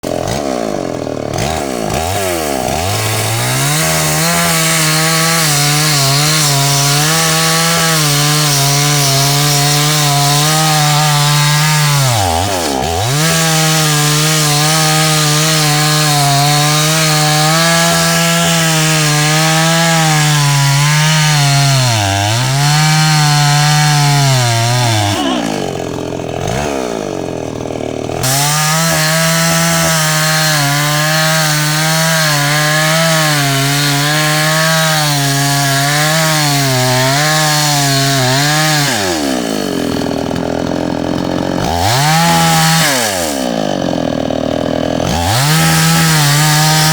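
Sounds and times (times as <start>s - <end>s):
chainsaw cutting into tree: 0.0s - 46.9s.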